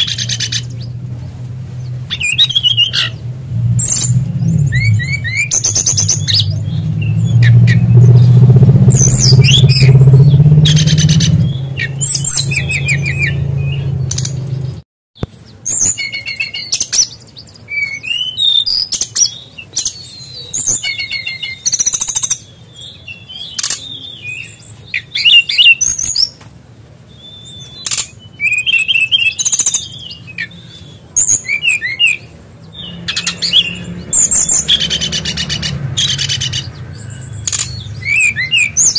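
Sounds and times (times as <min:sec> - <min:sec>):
bird singing chirps and trills: 0:00.0 - 0:26.4, 0:27.0 - 0:38.9.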